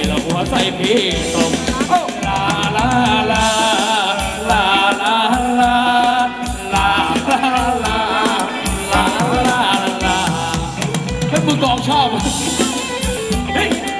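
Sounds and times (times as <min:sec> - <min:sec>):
steady drum beat: 0:00.0 - 0:13.9.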